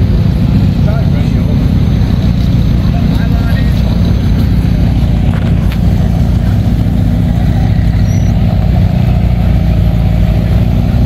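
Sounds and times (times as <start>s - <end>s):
car engine deep rumble: 0.0s - 11.0s.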